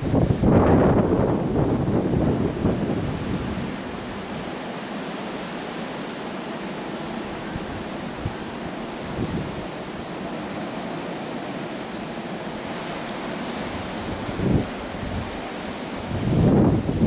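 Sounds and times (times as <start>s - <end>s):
wind buffeting microphone: 0.0s - 5.7s, 7.0s - 17.0s
wind blowing through trees: 0.0s - 17.0s.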